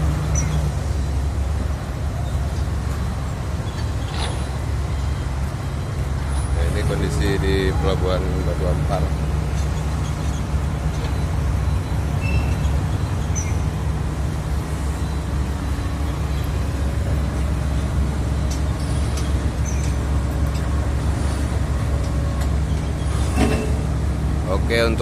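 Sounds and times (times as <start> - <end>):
road noise: 0.0 - 25.0
vehicle engine drone: 0.0 - 25.0.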